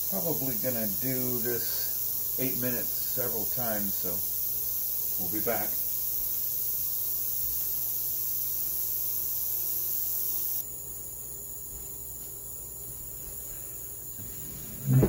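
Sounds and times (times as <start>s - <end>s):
ultrasonic cleaner hissing: 0.0s - 10.6s, 13.0s - 15.0s.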